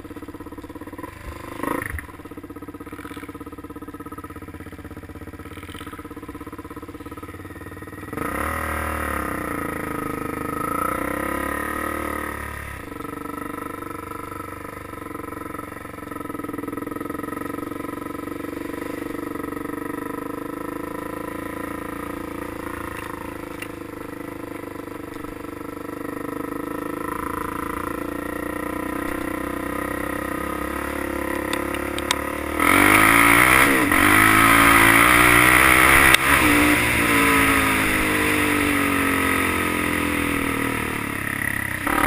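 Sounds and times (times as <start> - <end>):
dirt bike engine revving: 0.3 - 4.3, 5.2 - 7.4, 8.0 - 42.0.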